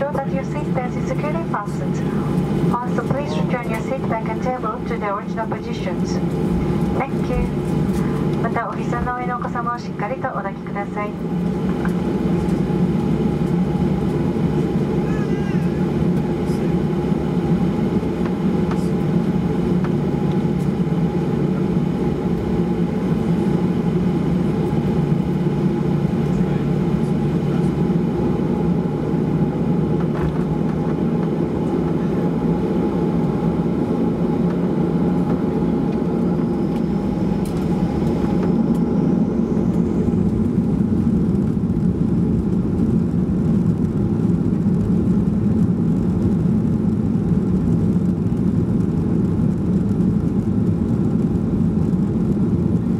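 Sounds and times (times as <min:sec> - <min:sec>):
airplane cabin engine drone: 0:00.0 - 0:52.9.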